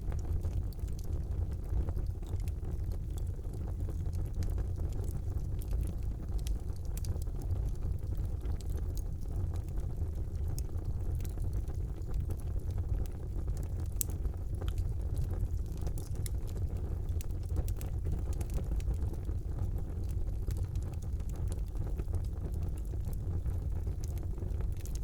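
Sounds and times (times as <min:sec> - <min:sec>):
fire crackling and popping: 0:00.0 - 0:25.0
fire rumbling: 0:00.0 - 0:25.0.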